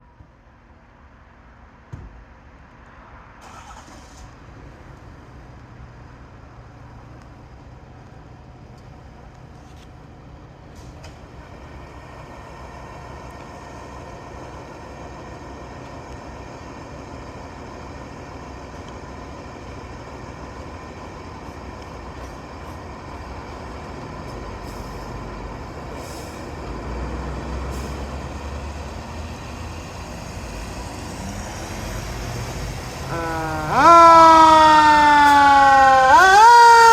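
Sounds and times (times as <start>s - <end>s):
truck engine rumbling: 3.4s - 36.9s.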